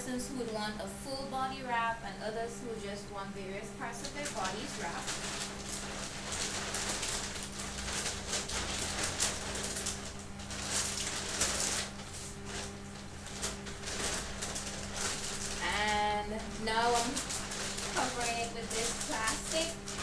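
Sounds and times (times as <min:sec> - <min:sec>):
plastic sheet crinkling: 0:03.8 - 0:20.0.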